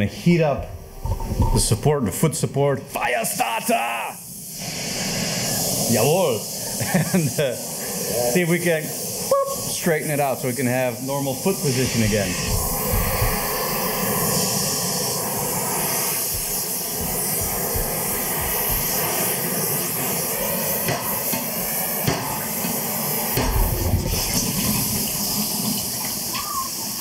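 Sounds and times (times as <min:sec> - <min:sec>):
gas torch flame hissing: 0:00.0 - 0:27.0
steam hissing: 0:00.0 - 0:27.0
water running: 0:05.0 - 0:27.0.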